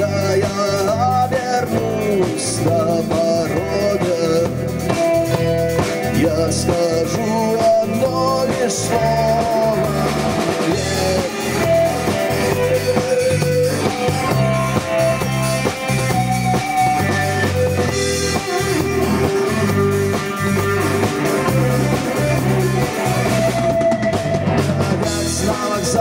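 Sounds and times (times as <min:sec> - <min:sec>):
bass: 0:00.0 - 0:26.0
drums: 0:00.0 - 0:26.0
guitar melody: 0:00.0 - 0:26.0.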